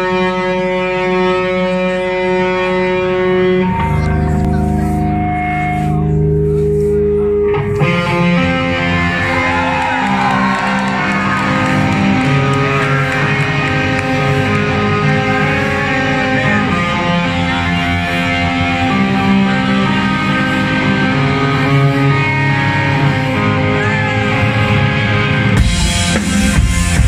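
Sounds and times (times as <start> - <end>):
held guitar chords ringing: 0.0 - 27.0
live metal band playing: 0.0 - 27.0.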